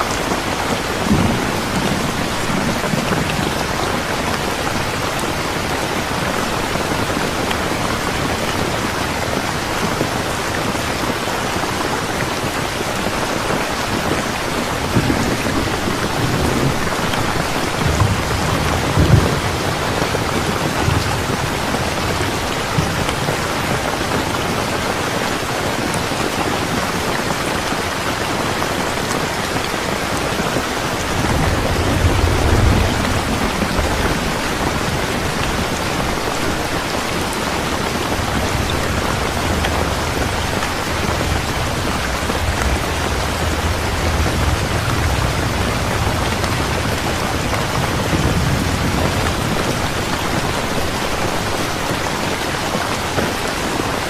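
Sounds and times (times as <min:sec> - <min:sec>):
low rolls of thunder: 0:00.0 - 0:25.6, 0:28.7 - 0:51.9
steady rain falling: 0:00.0 - 0:54.0.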